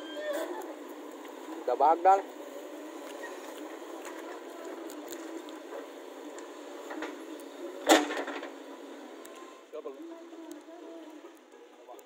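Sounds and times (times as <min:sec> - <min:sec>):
diesel engines running: 0:00.0 - 0:11.9.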